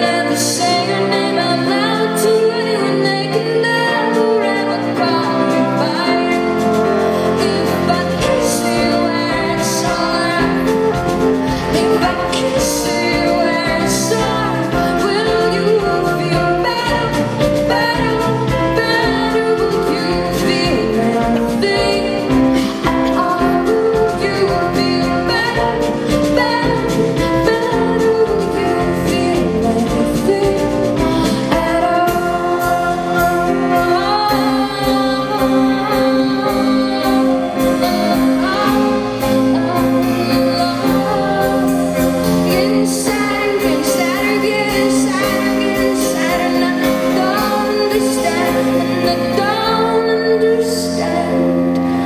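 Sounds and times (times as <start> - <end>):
cello: 0.0 - 52.0
grand piano: 0.0 - 52.0
violin: 0.0 - 52.0
woman singing: 0.0 - 52.0.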